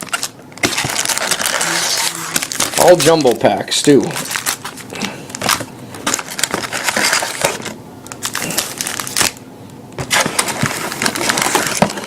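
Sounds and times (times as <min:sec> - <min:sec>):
card packs crinkling and rustling: 0:00.0 - 0:09.4, 0:10.0 - 0:12.0.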